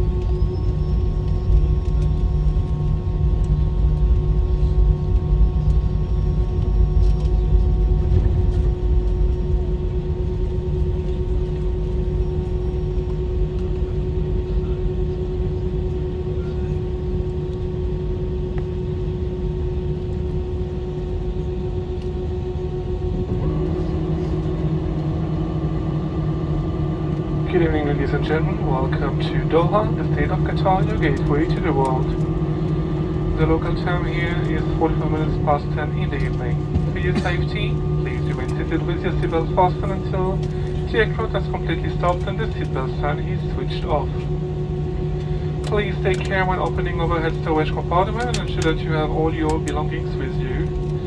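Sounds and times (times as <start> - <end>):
airliner cabin rumble and hum: 0.0 - 51.0.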